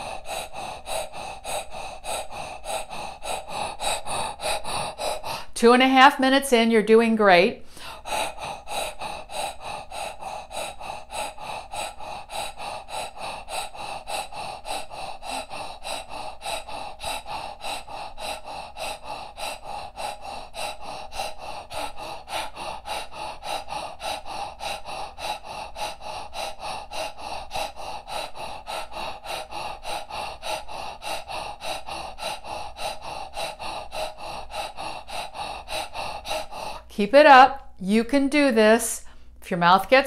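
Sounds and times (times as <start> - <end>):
woman breathing rapidly: 0.0 - 40.0.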